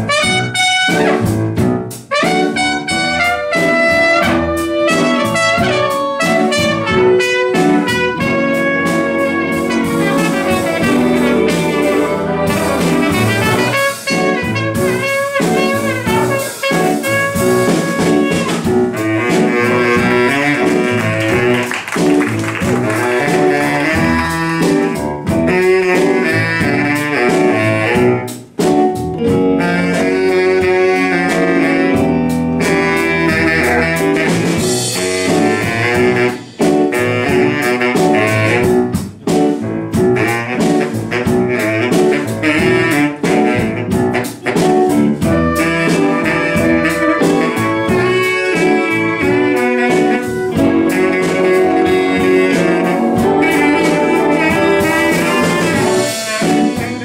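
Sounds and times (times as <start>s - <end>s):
big band jazz: 0.0s - 57.0s.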